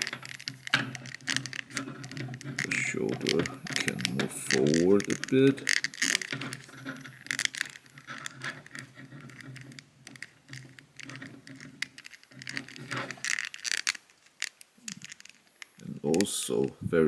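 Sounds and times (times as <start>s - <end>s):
plastic joint clicking: 0.0s - 16.8s
plastic scraping: 0.0s - 17.0s.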